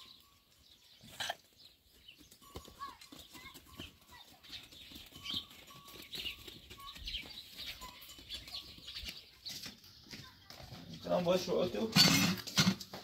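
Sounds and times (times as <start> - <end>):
small birds chirping: 0.0 - 11.9
goats moving about: 0.0 - 13.0.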